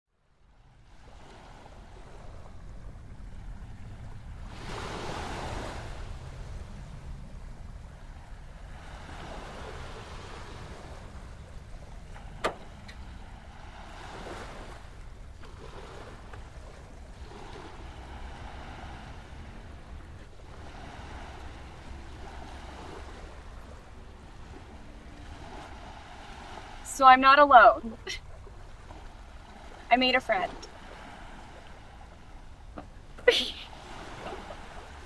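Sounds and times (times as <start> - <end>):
wind rumble on microphone: 0.3 - 35.0
ocean surf washing ashore: 0.6 - 35.0.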